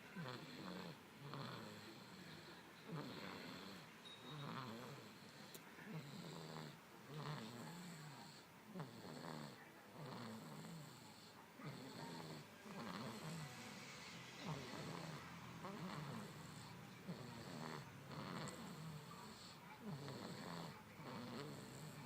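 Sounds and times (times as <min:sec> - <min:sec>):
snoring: 0:00.0 - 0:22.0.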